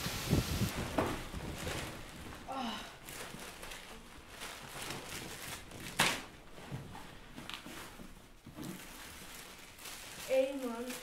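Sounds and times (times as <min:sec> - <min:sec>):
plastic bags rustling: 0:00.6 - 0:11.0.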